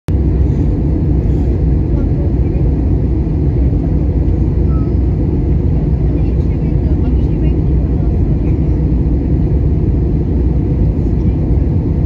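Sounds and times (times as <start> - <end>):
airplane cabin engine rumble: 0.1 - 12.0.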